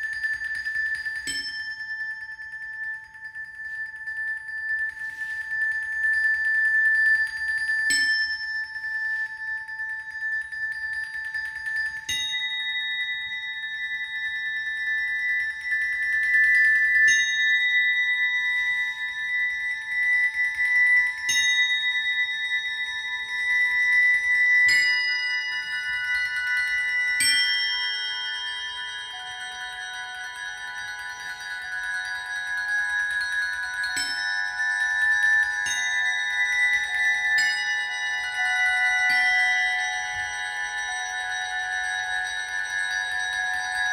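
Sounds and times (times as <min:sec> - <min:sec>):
ringing metallic mallet notes: 0:00.0 - 0:43.9.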